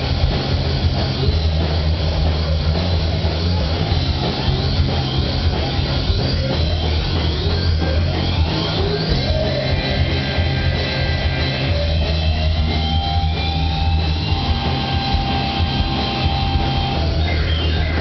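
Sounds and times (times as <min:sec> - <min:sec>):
drum kit: 0:00.0 - 0:18.0
electric guitar: 0:00.0 - 0:18.0
live rock band: 0:00.0 - 0:18.0.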